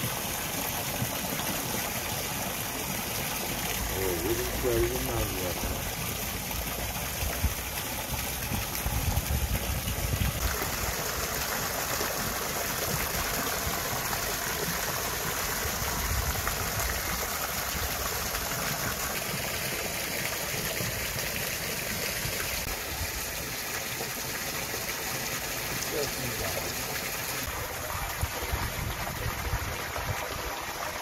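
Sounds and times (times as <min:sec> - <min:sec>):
rushing splashing water: 0:00.0 - 0:31.0.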